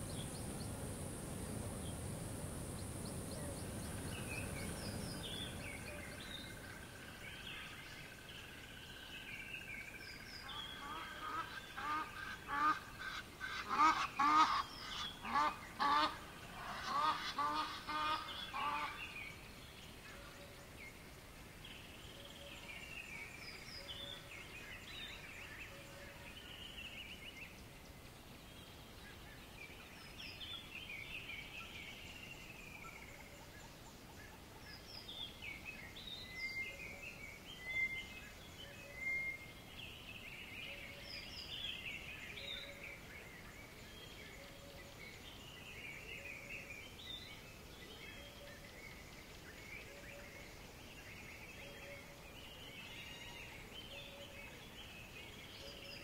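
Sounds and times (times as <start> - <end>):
faint steady hiss: 0.0 - 56.0
small birds singing: 0.0 - 56.0.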